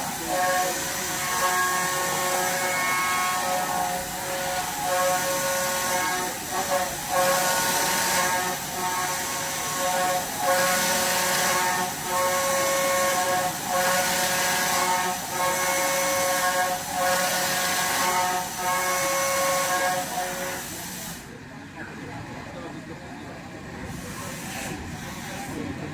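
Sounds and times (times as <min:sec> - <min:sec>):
milling machine cutting metal: 0:00.0 - 0:21.3.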